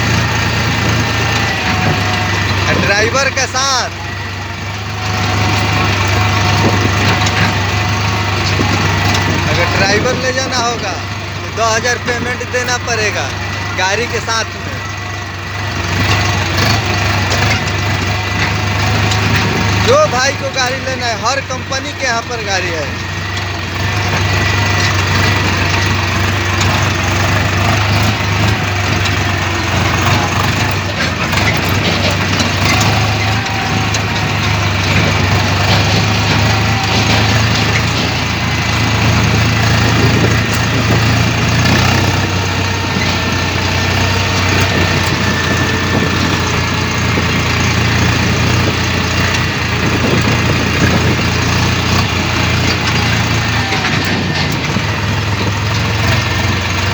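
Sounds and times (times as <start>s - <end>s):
tractor engine idling: 0.0s - 56.9s.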